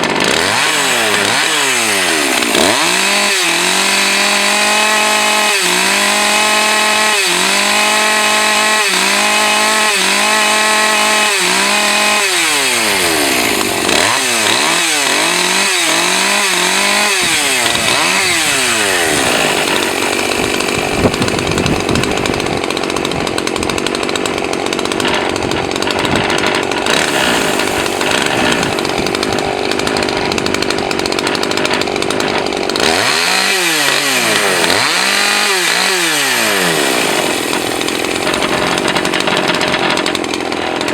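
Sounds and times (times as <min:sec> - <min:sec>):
chainsaw cutting log: 0:00.0 - 0:40.9
chainsaw revving: 0:00.0 - 0:40.9.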